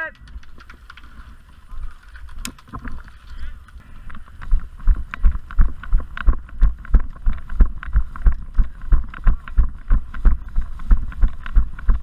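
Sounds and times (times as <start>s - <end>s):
running footsteps: 0.3s - 12.0s.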